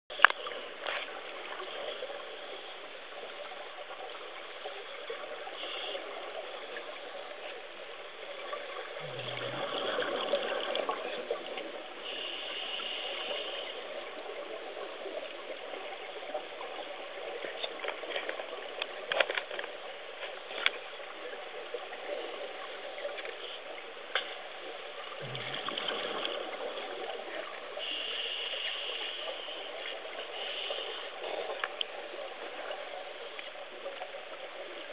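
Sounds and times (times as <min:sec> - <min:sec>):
steady underwater hiss: 0:00.1 - 0:34.9.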